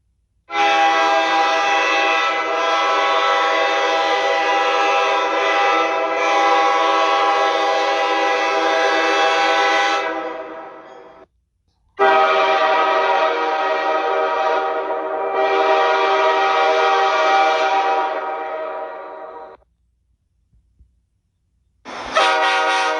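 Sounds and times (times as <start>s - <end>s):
train horn blasts: 0.5s - 11.2s, 12.0s - 19.6s, 21.9s - 22.9s.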